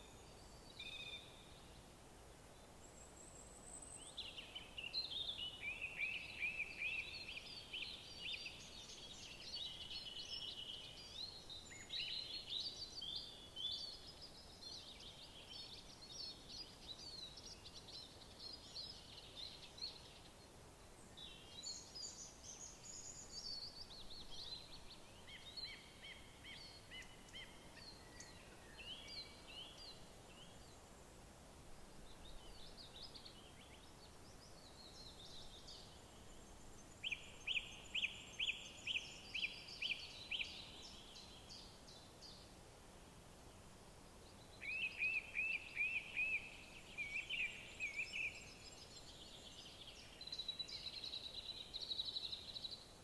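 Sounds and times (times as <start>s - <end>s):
songbirds singing: 0.0s - 1.9s, 2.6s - 31.0s, 32.0s - 42.6s, 44.0s - 53.0s
faint background hiss: 0.0s - 53.0s.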